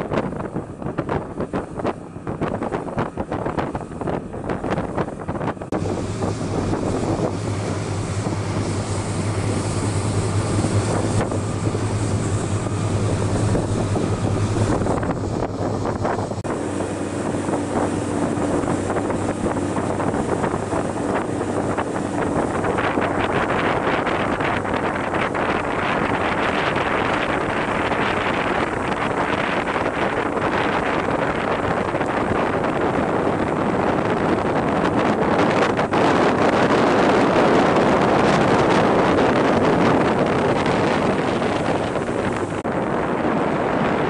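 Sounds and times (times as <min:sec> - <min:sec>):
motorboat engine drone: 0:00.0 - 0:44.0
water rushing past hull: 0:00.0 - 0:44.0
wind buffeting microphone: 0:00.0 - 0:44.0.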